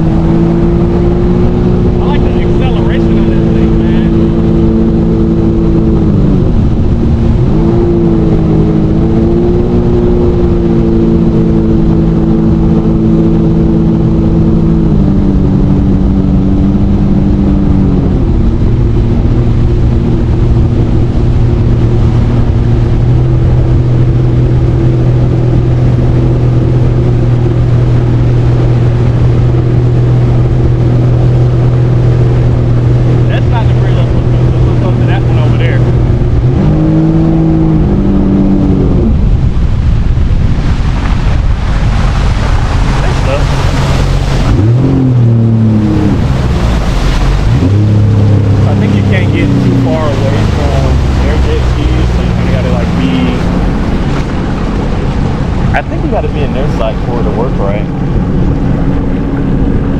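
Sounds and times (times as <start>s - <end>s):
jet ski engine running: 0.0s - 59.9s
water rushing: 0.0s - 59.9s
wind: 0.0s - 59.9s.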